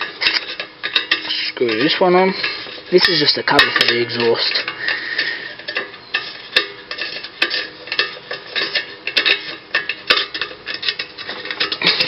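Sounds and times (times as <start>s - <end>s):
metal clinking and rattling: 0.0s - 12.0s.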